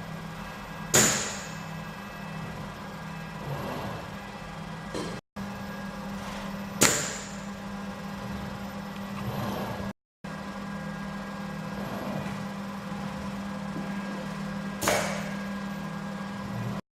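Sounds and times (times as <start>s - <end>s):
low machine hum: 0.0s - 16.8s.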